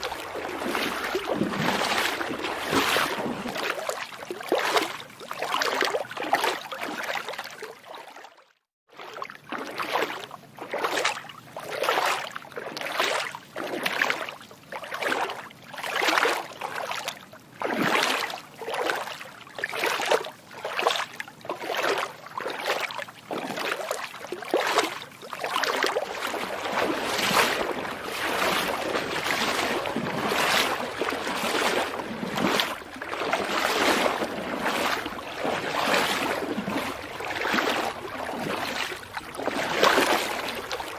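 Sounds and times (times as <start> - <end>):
feet splashing through water: 0.0 - 40.9.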